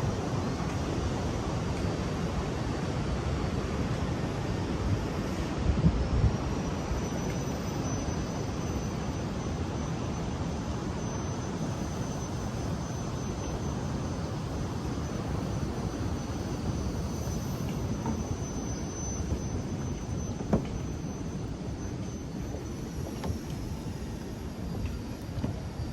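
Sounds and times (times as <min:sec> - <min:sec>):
wind: 0:00.0 - 0:25.9.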